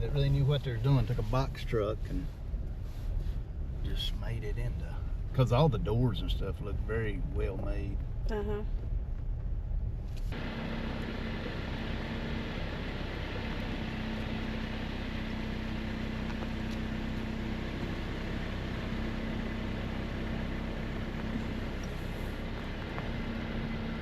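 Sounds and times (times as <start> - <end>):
engine-like drone: 0.0 - 24.0.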